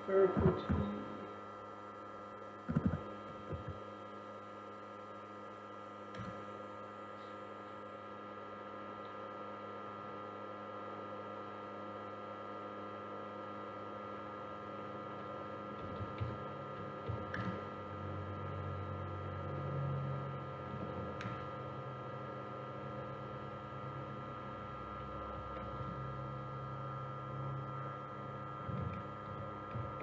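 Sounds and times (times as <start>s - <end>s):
low electrical hum with tones: 0.0s - 30.0s.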